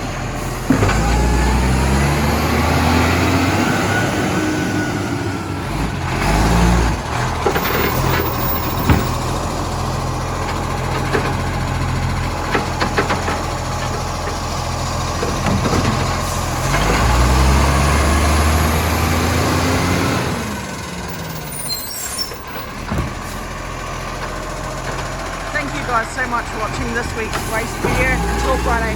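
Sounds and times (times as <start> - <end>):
truck engine with exhaust leak: 0.0 - 28.9.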